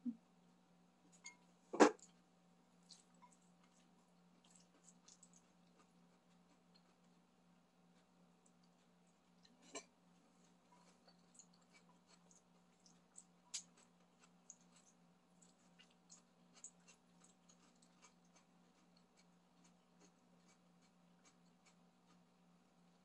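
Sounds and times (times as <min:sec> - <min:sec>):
soft chewing: 0:00.0 - 0:23.0.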